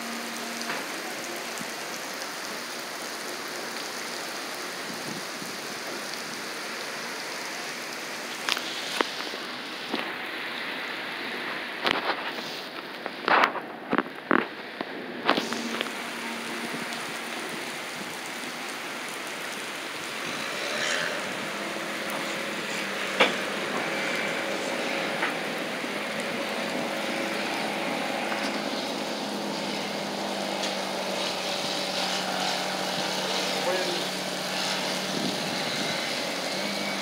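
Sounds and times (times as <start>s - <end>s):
heavy rain on pavement: 0.0s - 37.0s.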